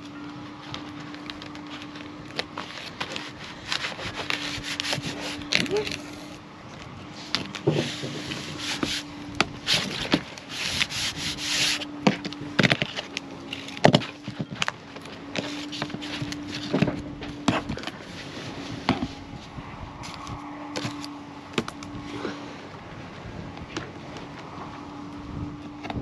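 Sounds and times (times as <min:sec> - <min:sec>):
duct tape rasping: 0:00.0 - 0:22.2
faint hum: 0:00.0 - 0:26.0.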